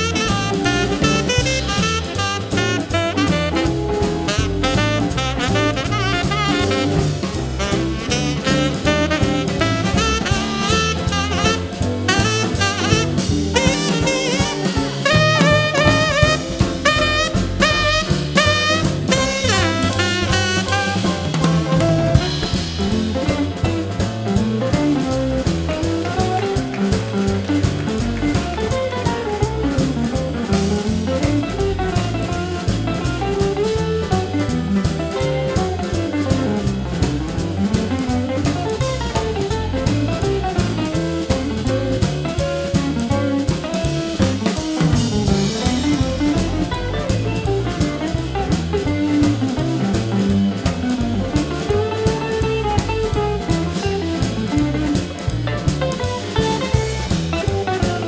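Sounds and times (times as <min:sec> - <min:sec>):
bass: 0:00.0 - 0:58.0
drum kit: 0:00.0 - 0:58.0
jazz band playing: 0:00.0 - 0:58.0.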